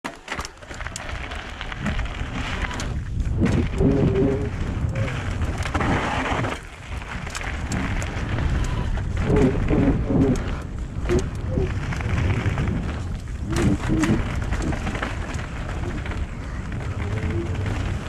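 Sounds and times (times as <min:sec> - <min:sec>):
bike clicks and rattles: 0:00.1 - 0:18.0
bike tyres rolling on gravel: 0:00.2 - 0:18.0
wind buffeting microphone: 0:00.6 - 0:18.0.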